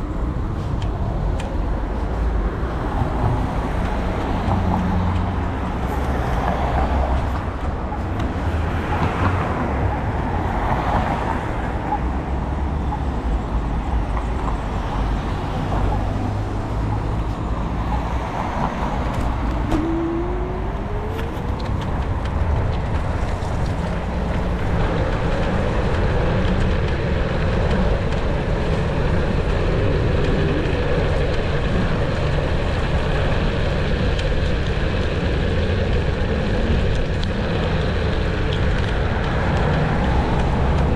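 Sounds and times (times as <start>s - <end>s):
cars passing: 0.0s - 40.9s
rushing road noise: 0.0s - 40.9s.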